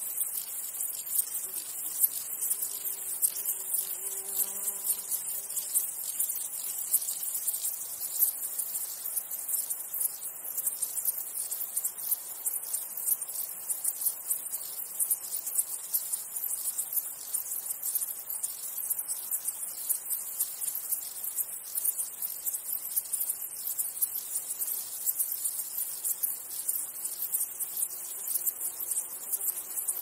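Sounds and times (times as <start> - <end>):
insect chirring: 0.0 - 30.0.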